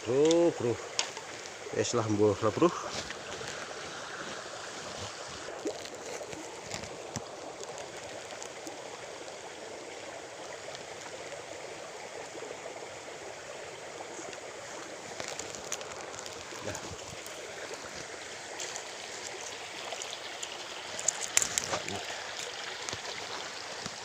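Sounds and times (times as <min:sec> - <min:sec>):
stream flowing: 0:00.0 - 0:24.0.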